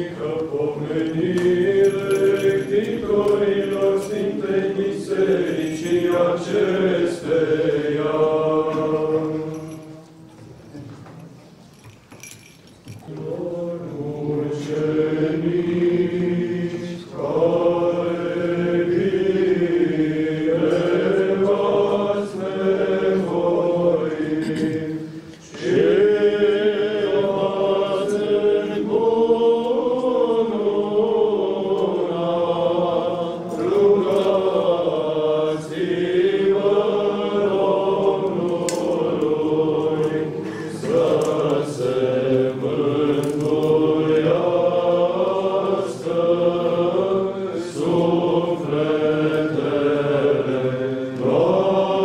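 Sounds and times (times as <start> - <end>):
group of voices chanting a hymn: 0.0 - 10.2, 13.1 - 52.0.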